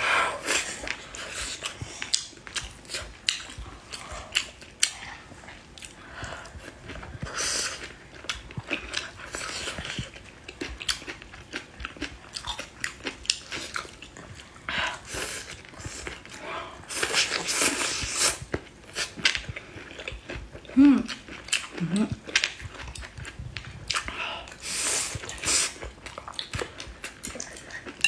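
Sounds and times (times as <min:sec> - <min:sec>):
chewing and biting: 0:00.8 - 0:24.2, 0:25.2 - 0:28.0.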